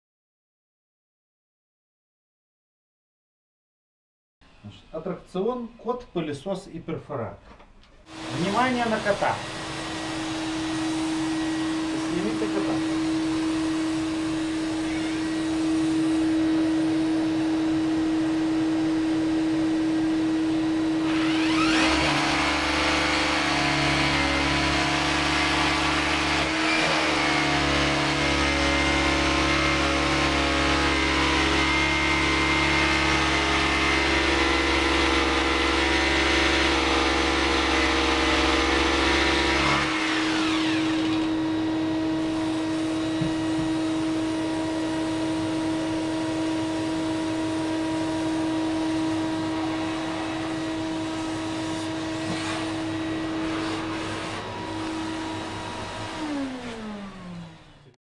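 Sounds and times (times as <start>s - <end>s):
vacuum cleaner motor whine: 8.0s - 58.0s
hammer drill drone: 8.1s - 58.0s.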